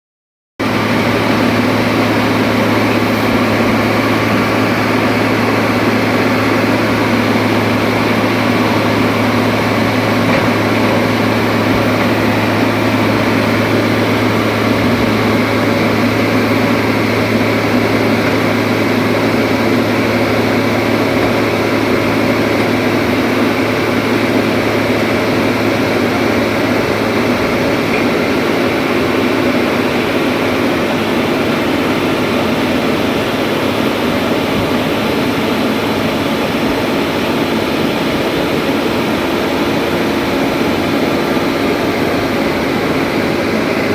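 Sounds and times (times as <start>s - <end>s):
excavator diesel engine droning: 0.6s - 43.9s.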